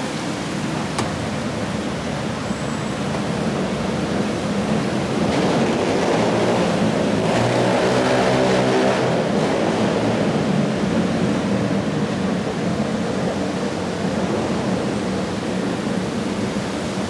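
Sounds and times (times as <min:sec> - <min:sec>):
wet city traffic: 0:00.0 - 0:17.0.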